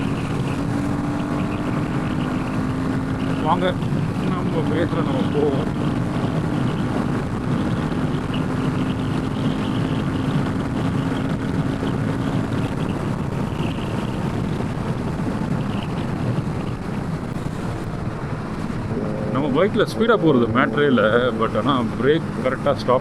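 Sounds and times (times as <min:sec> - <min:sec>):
motorcycle engine running: 0:00.0 - 0:23.0
wind rush on microphone: 0:00.0 - 0:23.0.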